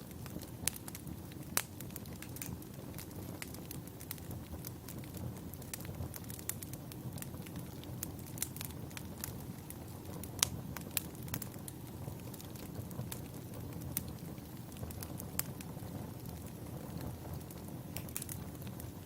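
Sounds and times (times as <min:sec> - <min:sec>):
campfire rumble: 0:00.0 - 0:19.0
fire crackling and popping: 0:00.0 - 0:19.0.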